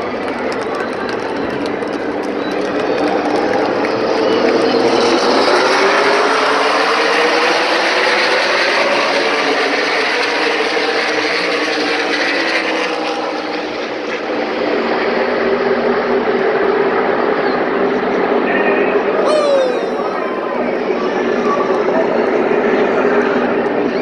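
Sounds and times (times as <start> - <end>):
race car engines at full throttle: 0.0 - 24.0.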